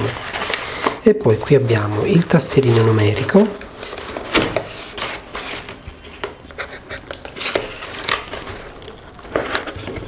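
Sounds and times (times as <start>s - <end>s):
cardboard rustling and scraping: 0.0s - 6.4s, 7.4s - 10.0s.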